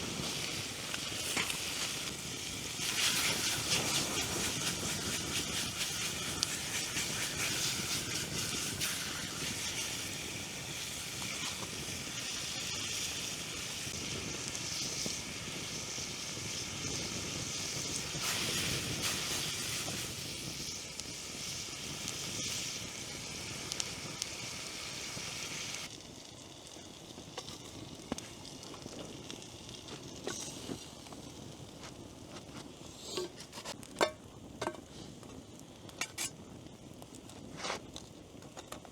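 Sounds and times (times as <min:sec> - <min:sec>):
food sizzling in a pan: 0:00.0 - 0:38.8.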